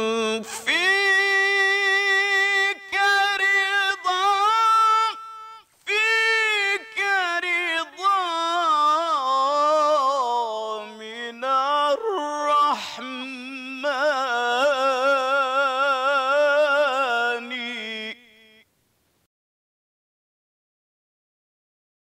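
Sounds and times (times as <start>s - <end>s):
man chanting: 0.0s - 18.6s.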